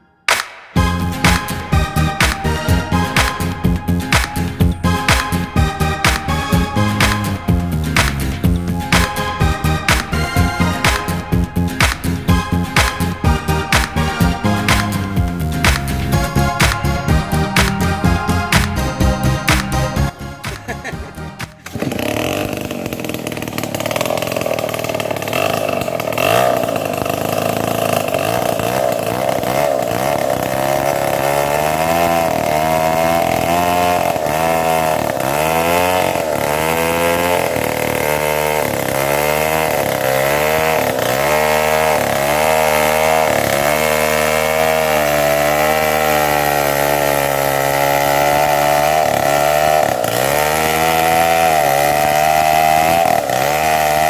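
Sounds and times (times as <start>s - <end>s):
chainsaw cutting wood: 0.3s - 54.0s.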